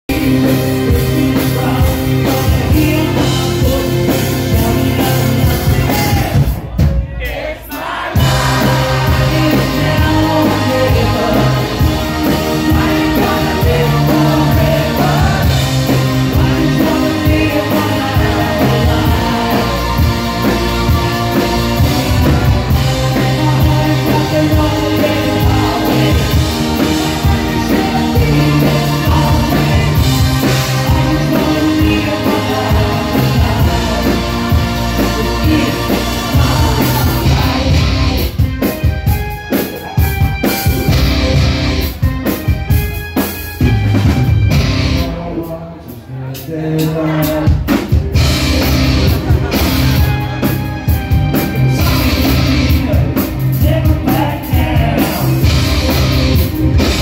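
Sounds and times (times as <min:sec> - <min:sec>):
man singing: 0:00.0 - 0:38.6, 0:44.9 - 0:50.5, 0:51.4 - 0:57.0
live rock band: 0:00.1 - 0:57.0.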